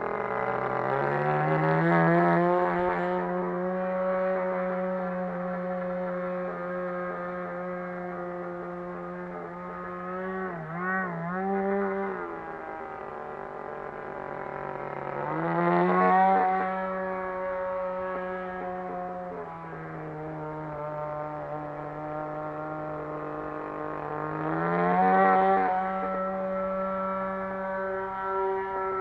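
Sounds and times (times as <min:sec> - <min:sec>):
model aeroplane engine running: 0:00.0 - 0:29.0.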